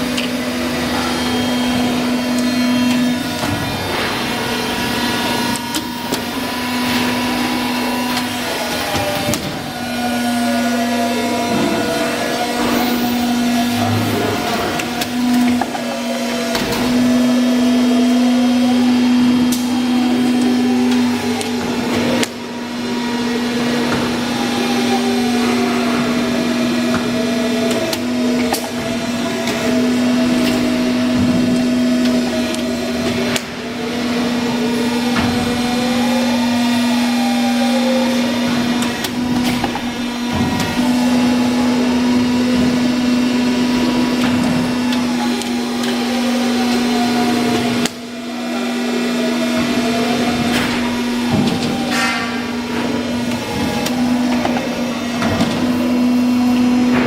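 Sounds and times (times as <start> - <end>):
machine motor hum and whine: 0.0 - 57.0.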